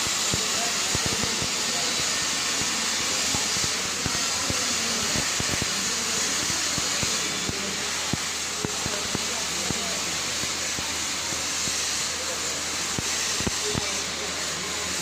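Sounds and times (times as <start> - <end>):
welding arc hissing and crackling: 0.0 - 15.0.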